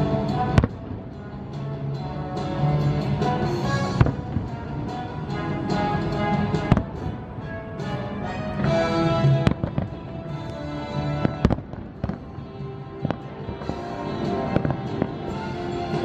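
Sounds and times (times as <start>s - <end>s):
fireworks bursting: 0.0s - 1.2s, 3.2s - 16.0s
music: 0.0s - 16.0s.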